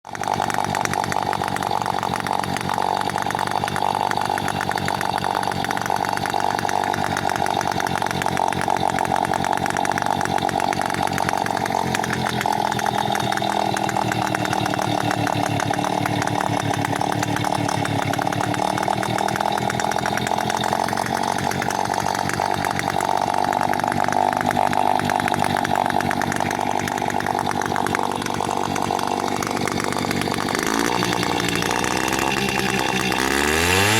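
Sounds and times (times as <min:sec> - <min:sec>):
moped two-stroke engine running: 0:00.0 - 0:33.9.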